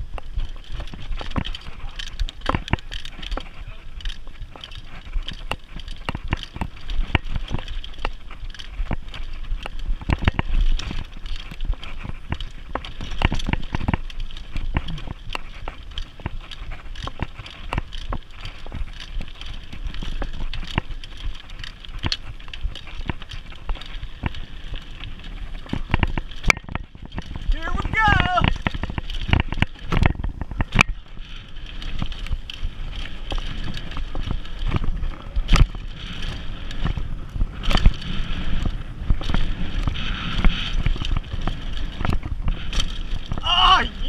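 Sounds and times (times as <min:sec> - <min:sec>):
bike rattles and knocks: 0:00.0 - 0:44.0
bike tyre noise on dirt: 0:00.0 - 0:44.0.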